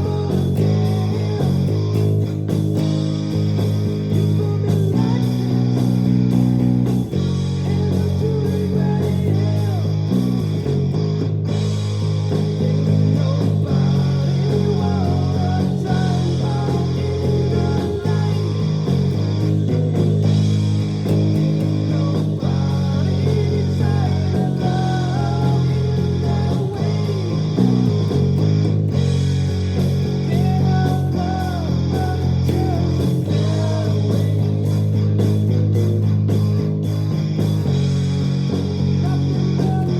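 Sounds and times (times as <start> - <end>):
sustained bass notes: 0.0 - 39.9.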